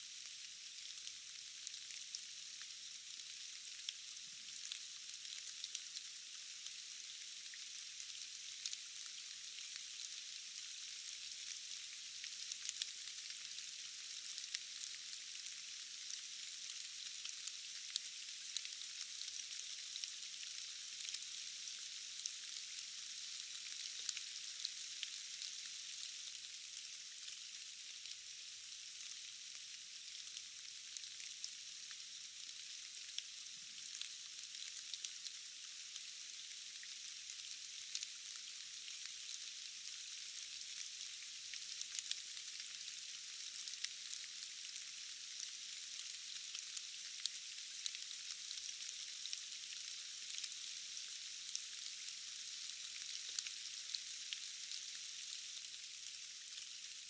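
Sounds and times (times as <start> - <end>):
rain falling in a forest: 0.0 - 57.0.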